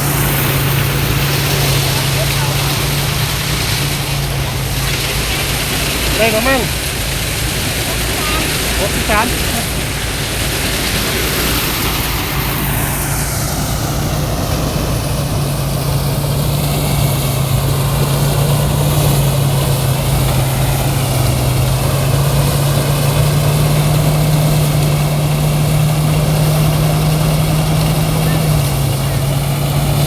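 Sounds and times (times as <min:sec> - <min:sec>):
mechanical rumble: 0:00.0 - 0:30.0
threshing machine engine humming: 0:00.0 - 0:30.0.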